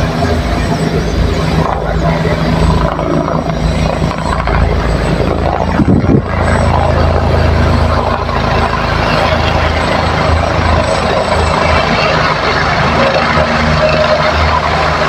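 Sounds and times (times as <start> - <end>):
helicopter rotor pulsing: 0.0 - 15.0.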